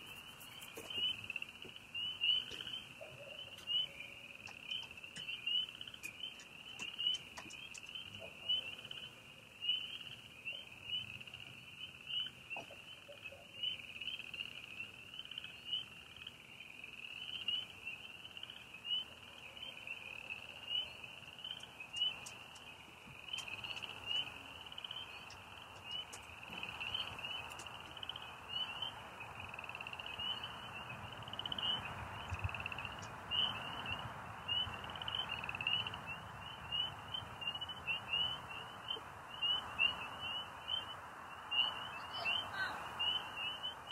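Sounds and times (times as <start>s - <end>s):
crickets chirping: 0.0s - 43.9s
frogs croaking: 0.0s - 43.9s.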